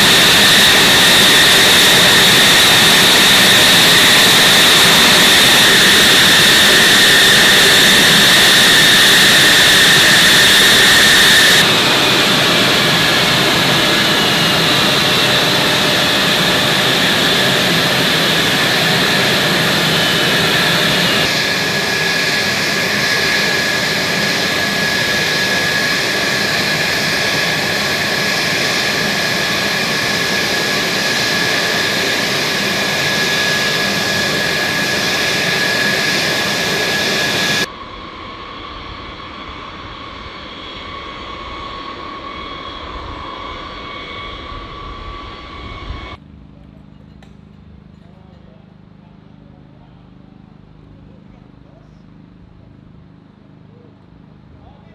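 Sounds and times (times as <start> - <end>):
jet engine rush and whine: 0.0 - 54.9.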